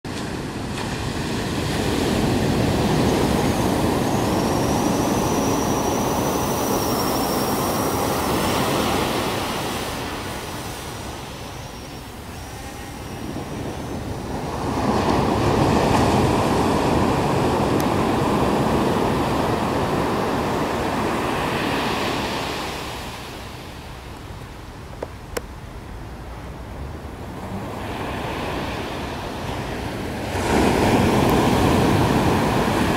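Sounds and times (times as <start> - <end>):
ocean surf breaking on beach: 0.1 - 32.9
high wavering whine: 1.1 - 32.9.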